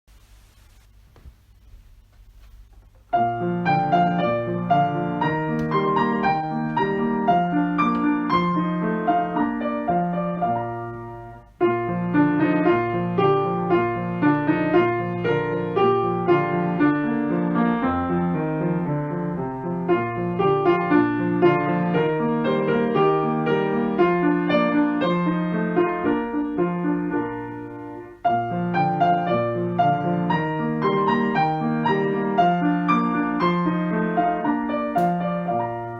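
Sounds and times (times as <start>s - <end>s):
piano melody over held chords: 3.1s - 35.9s.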